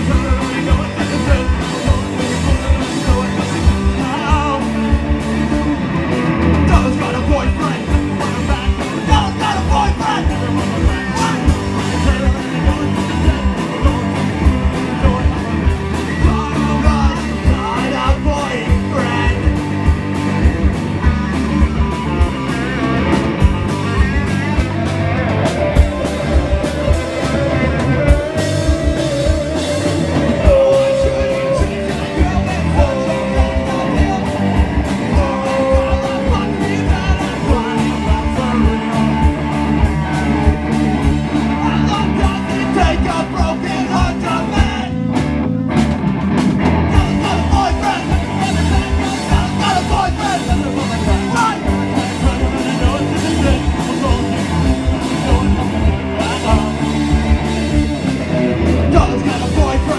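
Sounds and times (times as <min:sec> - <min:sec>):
drum kit pounding: 0:00.0 - 0:59.9
electric guitar: 0:00.0 - 0:59.9.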